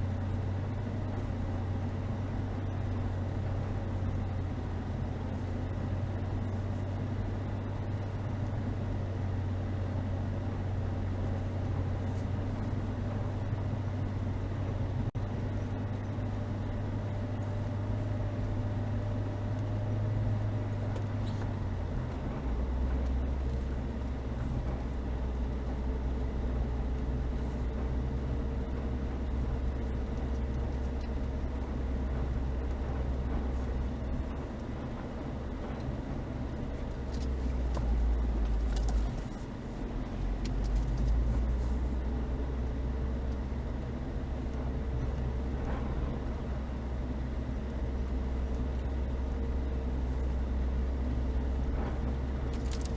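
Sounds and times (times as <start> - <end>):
car engine droning: 0.0 - 52.9.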